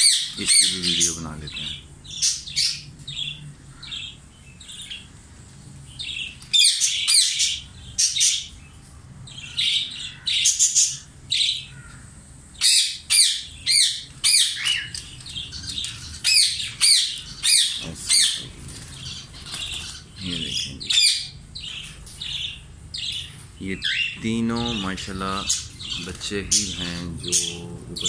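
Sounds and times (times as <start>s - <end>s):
parakeets calling: 0.0s - 28.0s.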